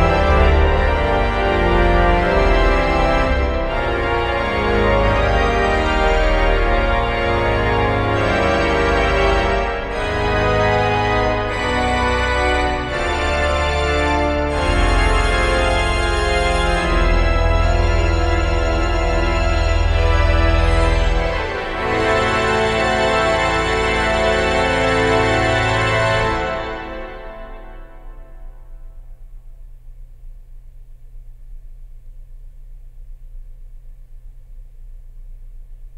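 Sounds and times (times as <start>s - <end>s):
pipe organ full chords: 0.0s - 31.1s
deep organ pedal bass: 0.0s - 35.9s.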